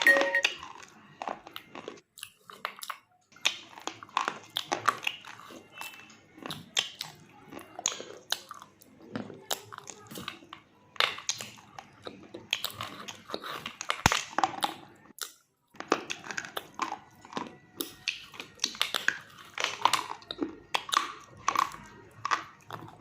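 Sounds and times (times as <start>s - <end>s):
crunching and chewing clay: 0.1s - 23.0s.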